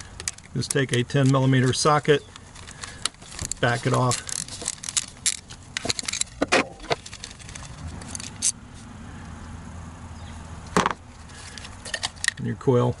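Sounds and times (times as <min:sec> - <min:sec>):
faint steady rumble: 0:00.0 - 0:13.0.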